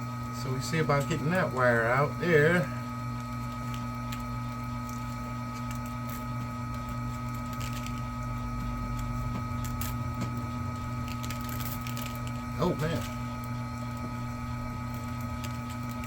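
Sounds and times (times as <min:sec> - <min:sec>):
wire stripping machine motor: 0:00.0 - 0:16.0.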